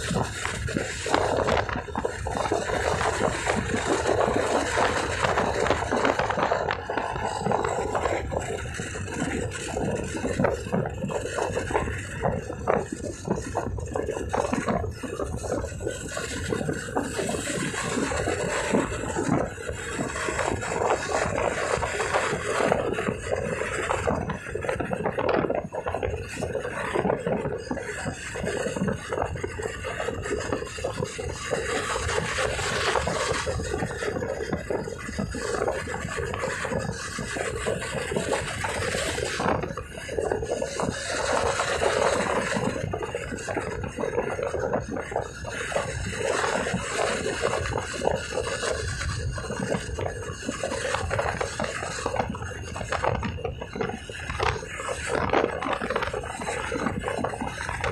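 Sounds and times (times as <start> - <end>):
motorcycle engine running: 0.0 - 57.9
wind rasping on microphone: 0.0 - 57.9.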